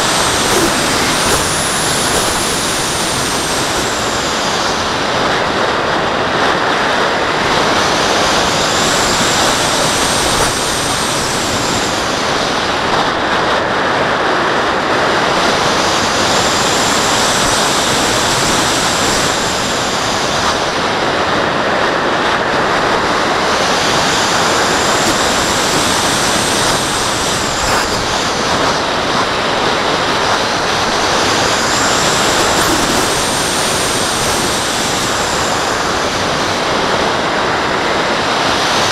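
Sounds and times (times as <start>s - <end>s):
high whistle of airflow: 0.0s - 38.9s
wind noise on camera: 0.0s - 38.9s.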